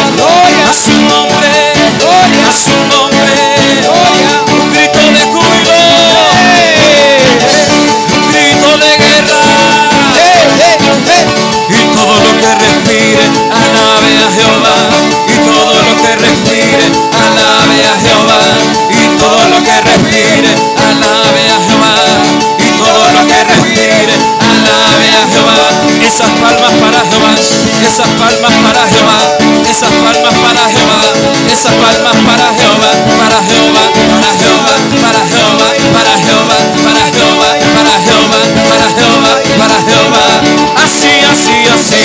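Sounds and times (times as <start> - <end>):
band playing upbeat worship music: 0.0 - 42.0.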